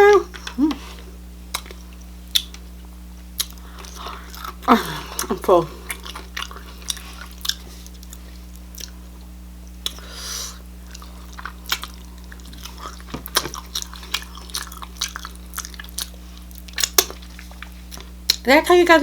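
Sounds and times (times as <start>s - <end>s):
wet chewing and mouth clicks: 1.5s - 9.0s, 9.8s - 10.1s, 10.8s - 18.4s.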